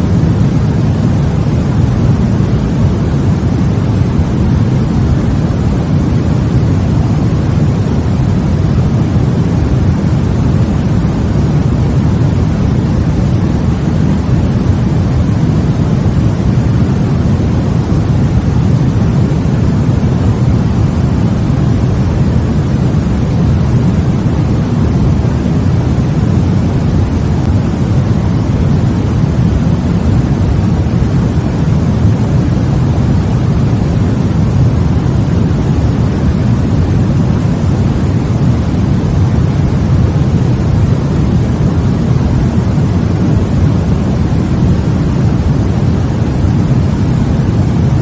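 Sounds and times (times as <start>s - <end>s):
deep white noise: 0.0s - 48.0s.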